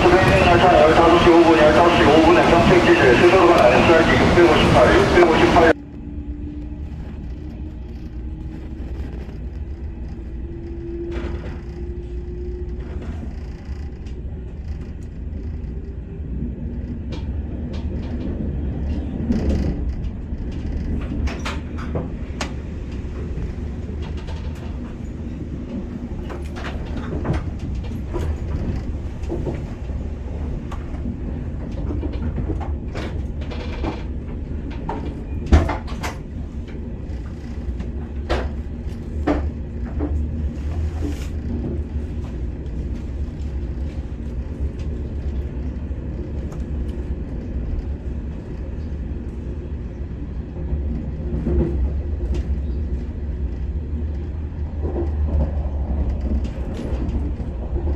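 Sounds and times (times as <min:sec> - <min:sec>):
train low rumble: 0:00.0 - 0:57.9.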